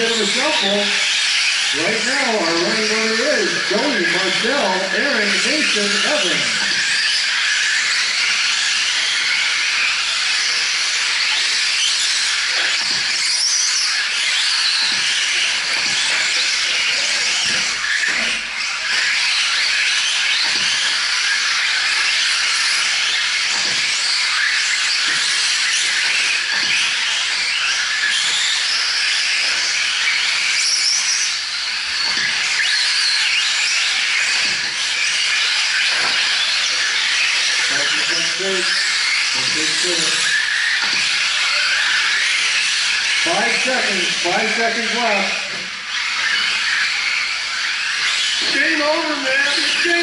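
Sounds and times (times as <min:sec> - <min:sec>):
electric motors whining: 0:00.0 - 0:50.0.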